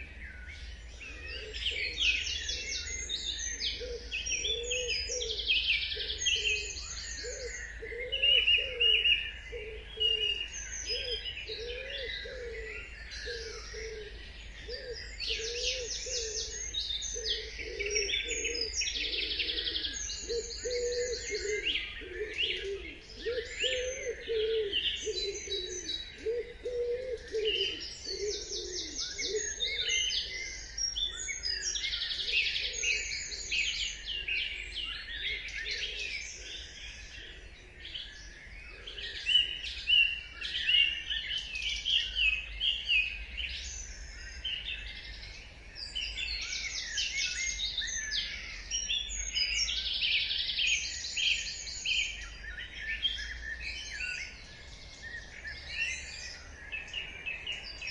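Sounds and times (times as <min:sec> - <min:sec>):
low repeated bird call: 0:00.0 - 0:57.9
songbirds singing: 0:00.0 - 0:57.9.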